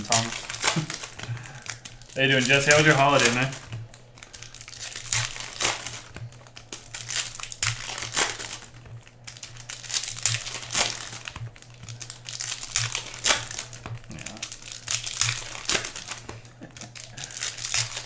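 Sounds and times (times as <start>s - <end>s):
foil wrappers crinkling and tearing: 0.0s - 18.0s.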